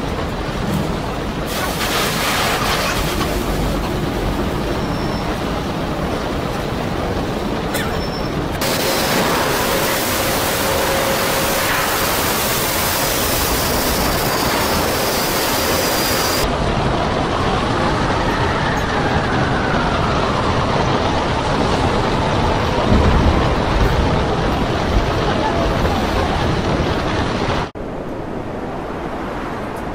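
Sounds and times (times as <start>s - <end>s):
storm wind rushing: 0.0s - 29.9s.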